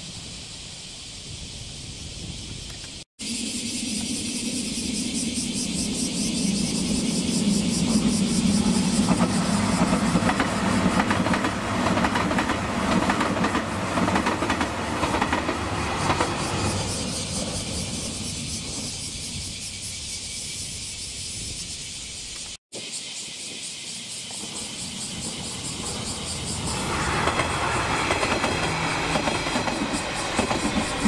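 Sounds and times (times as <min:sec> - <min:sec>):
diesel train engine drone: 0:02.7 - 0:21.5, 0:24.3 - 0:31.0.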